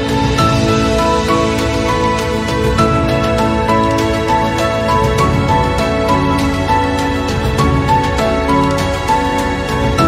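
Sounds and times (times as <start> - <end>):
gentle background music: 0.0 - 10.0.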